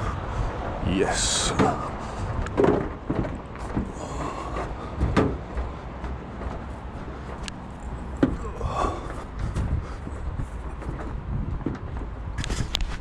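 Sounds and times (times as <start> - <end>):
footsteps: 0.4 - 13.0.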